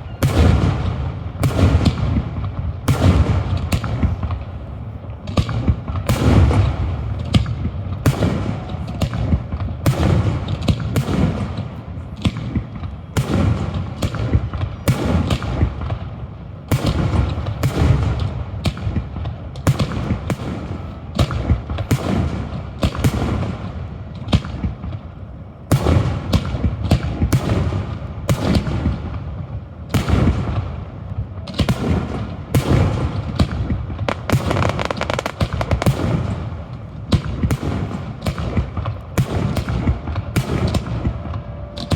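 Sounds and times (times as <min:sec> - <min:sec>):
sharp firework cracks: 0:00.0 - 0:29.3, 0:29.9 - 0:41.9
fireworks booming: 0:00.0 - 0:41.9.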